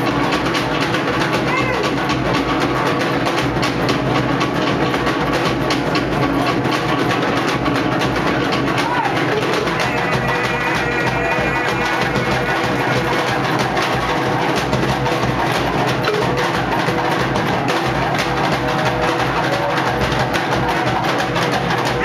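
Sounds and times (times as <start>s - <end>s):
fast driving drumming: 0.0s - 22.0s.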